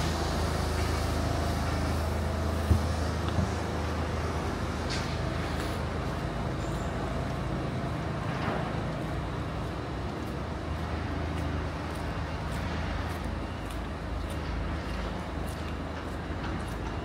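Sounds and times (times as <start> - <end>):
city traffic noise: 0.0 - 17.0
diesel lorry engine rumbling: 0.0 - 17.0.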